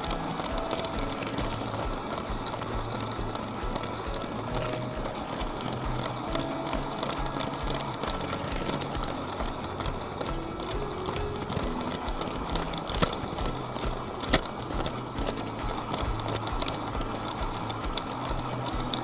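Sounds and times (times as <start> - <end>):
toy train motor rumble: 0.0 - 19.0
wheels clicking over rail joints: 0.0 - 19.0.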